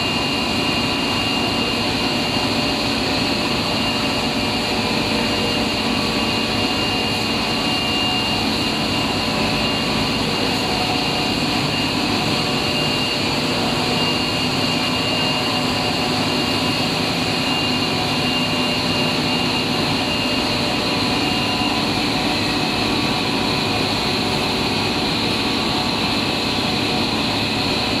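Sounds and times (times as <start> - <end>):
industrial machine whine and hum: 0.0 - 28.0.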